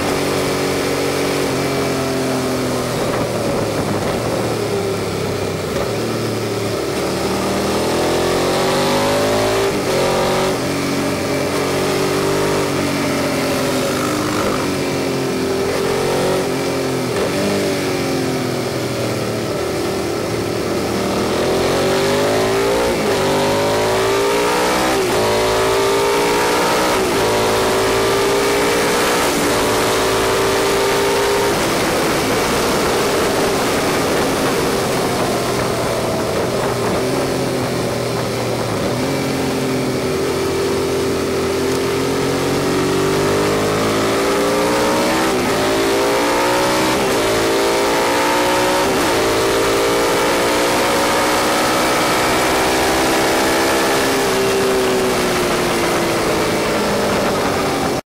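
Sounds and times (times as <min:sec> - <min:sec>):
motorcycle engine accelerating: 0:00.0 - 0:58.0
rush of noise: 0:00.0 - 0:58.0.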